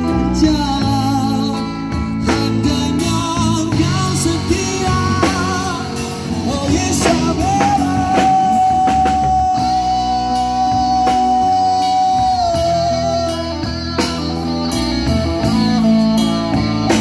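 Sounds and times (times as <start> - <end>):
bass guitar: 0.0 - 17.0
drum kit: 0.0 - 17.0
electric guitars: 0.0 - 17.0.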